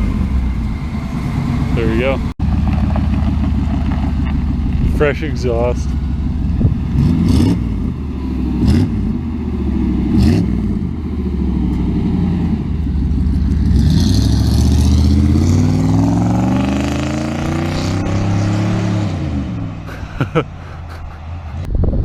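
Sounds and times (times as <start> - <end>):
pickup engine revving: 0.0 - 21.7.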